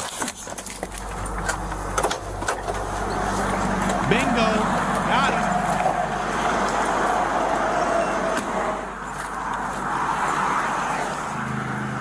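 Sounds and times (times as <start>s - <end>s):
road traffic rushing: 0.4s - 12.0s.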